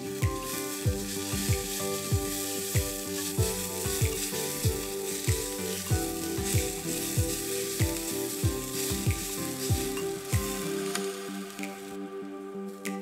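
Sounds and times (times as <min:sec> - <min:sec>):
vegetables sizzling in oil: 0:00.0 - 0:12.0
background music with steady beat: 0:00.0 - 0:13.0.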